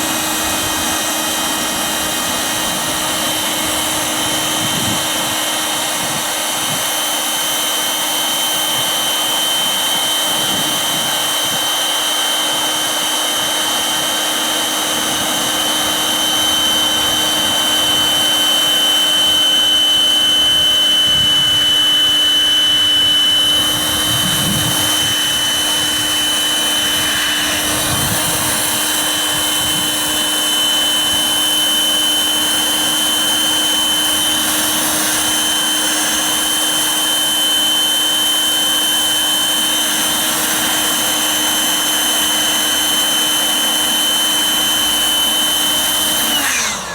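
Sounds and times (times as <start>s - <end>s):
electric air pump whining: 0.0s - 46.9s.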